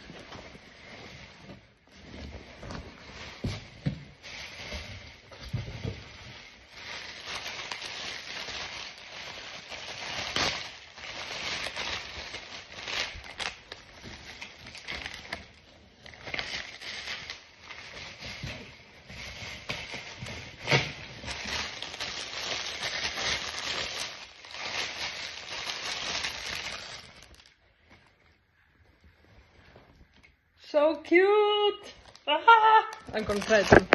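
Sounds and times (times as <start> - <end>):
plastic bags rustling and crinkling: 0.0 - 30.2, 31.9 - 33.9.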